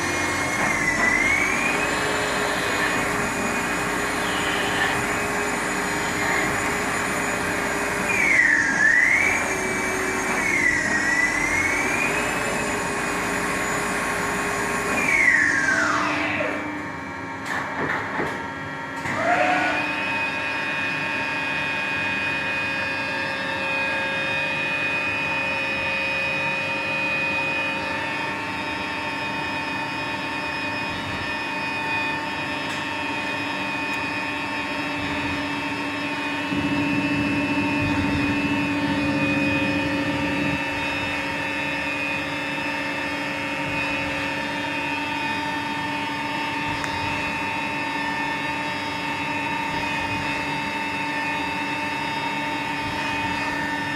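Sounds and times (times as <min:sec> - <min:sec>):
lathe spindle whine: 0:00.0 - 0:17.4, 0:18.5 - 0:53.9
loud rough machine noise: 0:00.0 - 0:53.9.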